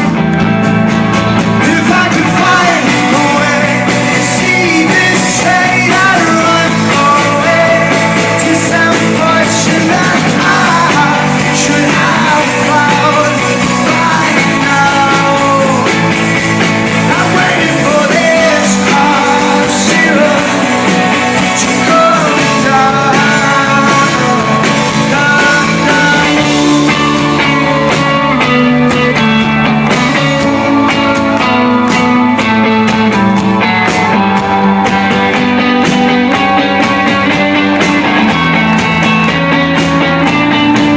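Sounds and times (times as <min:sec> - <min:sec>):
live rock band playing: 0:00.0 - 0:40.9
person singing: 0:01.0 - 0:40.9.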